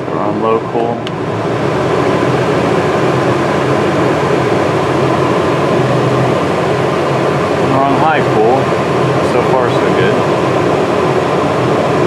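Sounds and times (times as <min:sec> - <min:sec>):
air conditioner blowing hum: 0:00.0 - 0:12.0.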